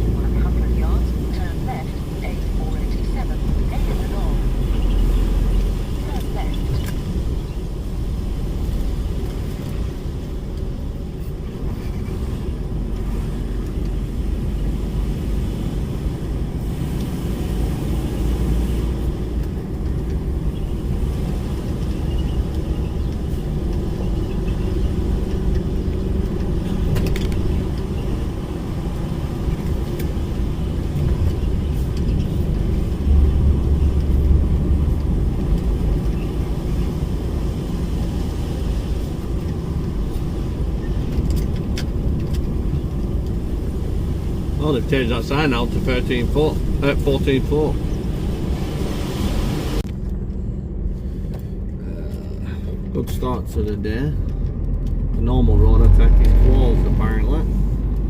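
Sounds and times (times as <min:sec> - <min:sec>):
lorry diesel engine rumble: 0:00.0 - 0:58.0
tyre and road noise: 0:00.0 - 0:58.0.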